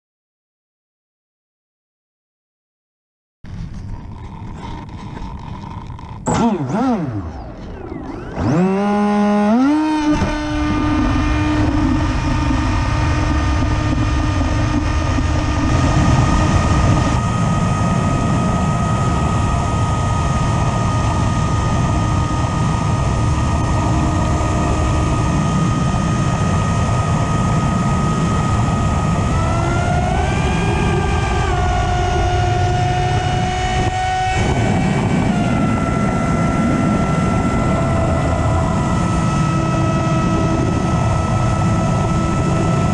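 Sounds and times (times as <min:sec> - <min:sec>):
electric motor and propeller whine: 0:03.5 - 0:42.9
wind rush on microphone: 0:03.5 - 0:42.9.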